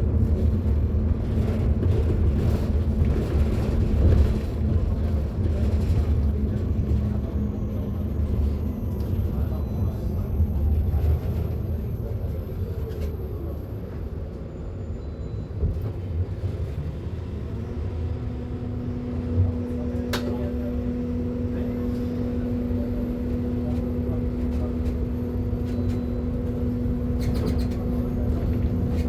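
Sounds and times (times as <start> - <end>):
bus low rumble: 0.0 - 29.0.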